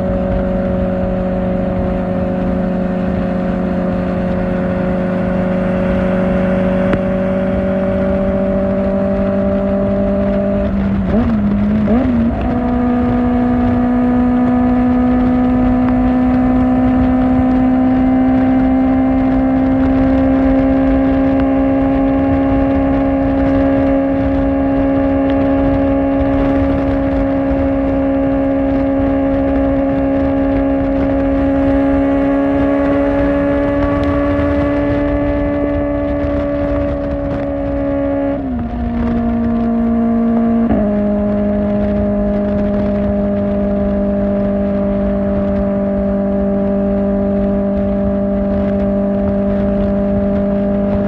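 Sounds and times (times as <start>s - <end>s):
motorcycle engine running: 0.0s - 51.0s
wind and road noise: 0.0s - 51.0s.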